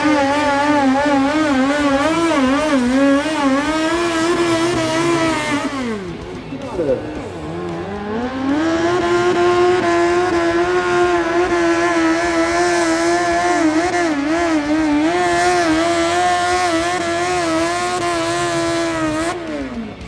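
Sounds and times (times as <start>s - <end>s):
tractor engine at high revs: 0.0s - 20.0s.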